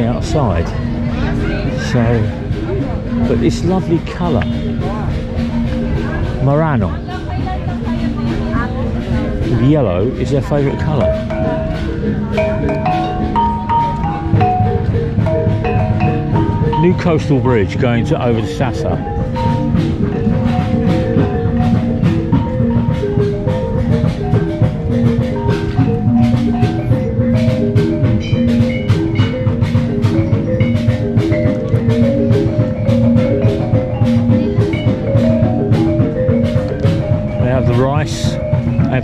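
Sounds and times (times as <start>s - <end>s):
mallet-struck melody: 0.0s - 39.0s
steady drum beat: 0.0s - 39.0s.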